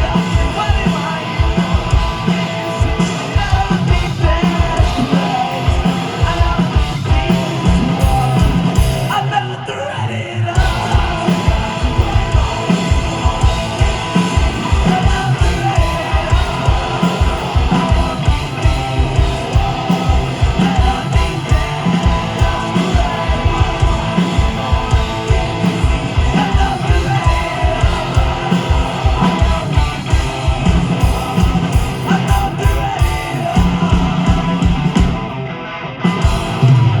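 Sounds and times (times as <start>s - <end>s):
fast drumbeat: 0.0s - 9.3s, 10.6s - 35.4s, 36.1s - 37.0s
electric guitars: 0.0s - 37.0s
yelled vocals: 0.0s - 37.0s.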